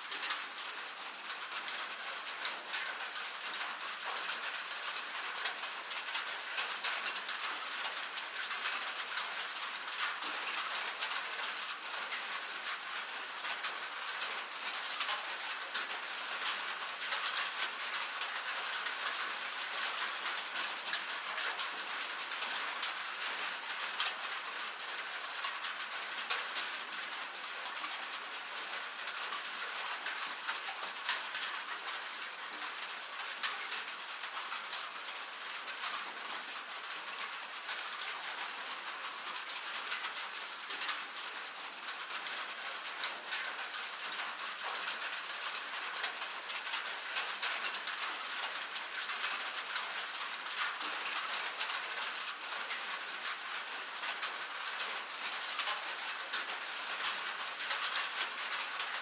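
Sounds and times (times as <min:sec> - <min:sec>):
rain pattering on metal roof: 0:00.0 - 0:59.0.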